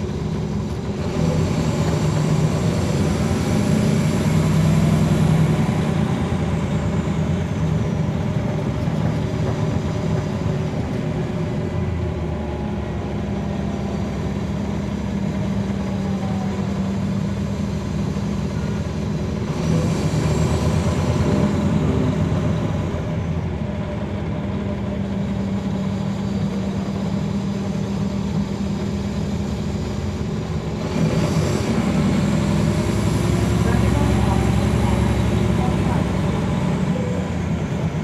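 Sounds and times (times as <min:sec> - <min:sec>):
bus diesel engine humming: 0:00.0 - 0:38.0.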